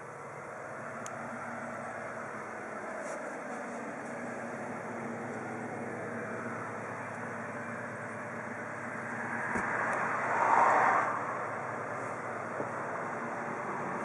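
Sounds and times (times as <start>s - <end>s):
vehicle engine noise: 0.0s - 14.0s.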